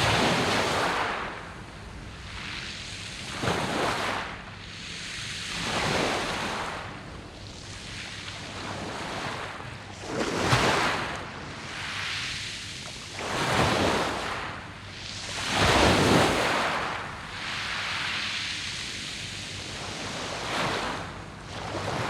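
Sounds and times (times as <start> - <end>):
waves washing over pebbles: 0.0 - 1.4, 2.2 - 22.0.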